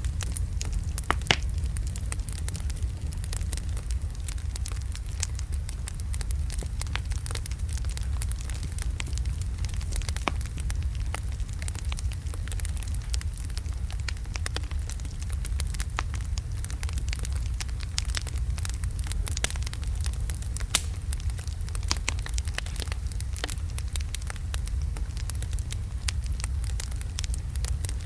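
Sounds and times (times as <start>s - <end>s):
fire rumbling: 0.0s - 28.0s
logs crackling and popping: 0.0s - 28.0s.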